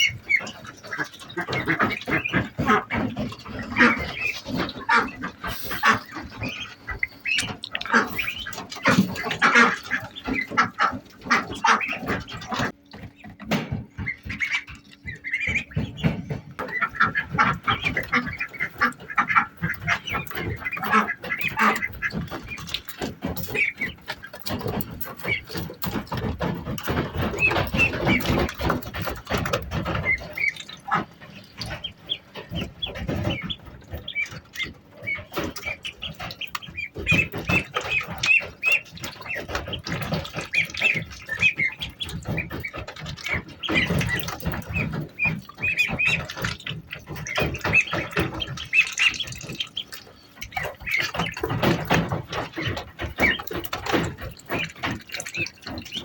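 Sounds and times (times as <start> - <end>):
ducklings peeping: 0.0 - 56.0.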